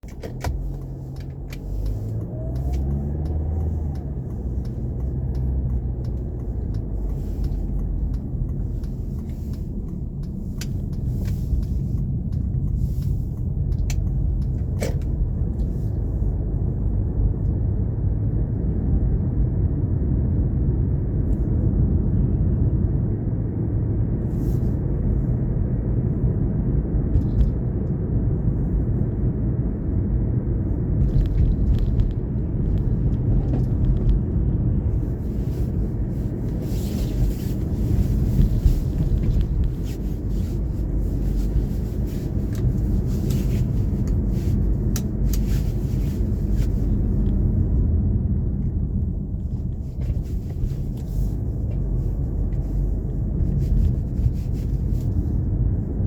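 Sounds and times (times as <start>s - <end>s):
car engine accelerating: 0.0s - 56.0s
road rumble: 0.0s - 56.0s.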